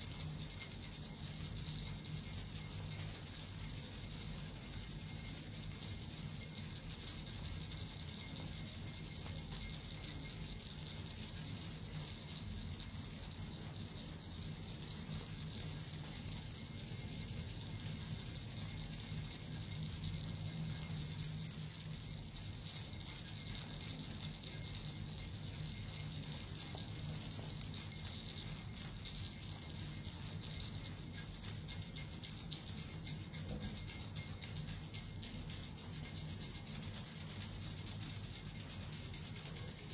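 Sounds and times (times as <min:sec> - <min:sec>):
jingle bells shaken: 0:00.0 - 0:39.9.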